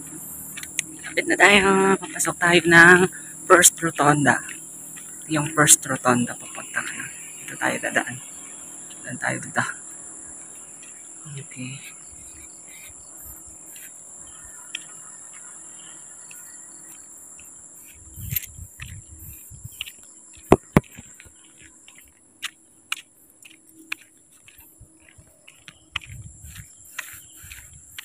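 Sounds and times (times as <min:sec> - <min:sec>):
night insects droning: 0:00.0 - 0:28.0.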